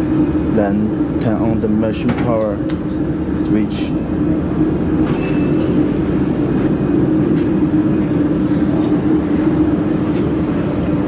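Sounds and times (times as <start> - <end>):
machine cooling fans humming: 0.0 - 11.0.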